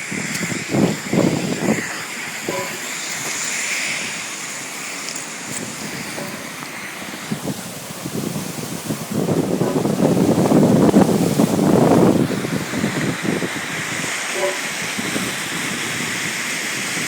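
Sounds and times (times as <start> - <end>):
air hissing from manhole: 0.0 - 17.0.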